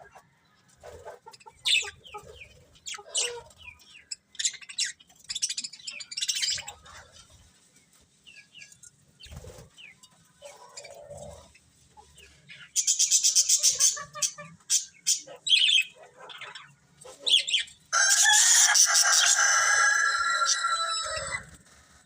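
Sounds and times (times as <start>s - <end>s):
budgerigars chirping and chattering: 1.0s - 7.4s, 8.2s - 19.8s.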